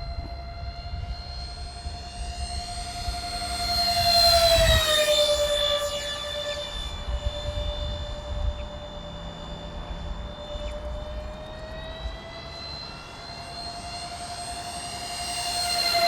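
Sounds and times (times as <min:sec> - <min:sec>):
electric ducted fans whining: 0:00.0 - 0:16.0.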